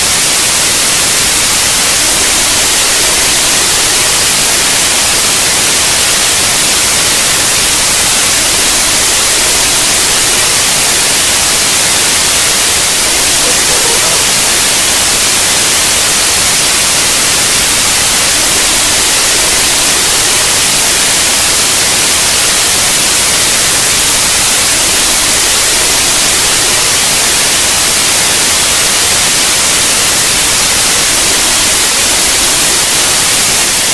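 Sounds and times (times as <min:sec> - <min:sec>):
loud static hiss: 0:00.0 - 0:33.9.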